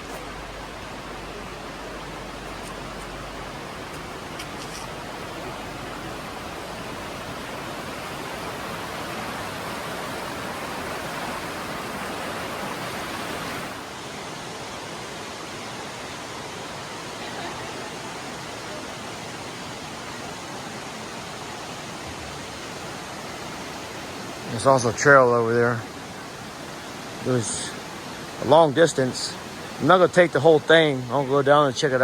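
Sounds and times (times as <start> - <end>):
creek water rushing: 0.0 - 32.0.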